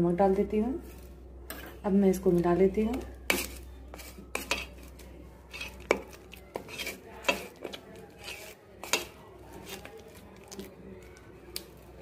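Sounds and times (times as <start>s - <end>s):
spoon stirring paste in metal bowl: 0.8s - 11.1s.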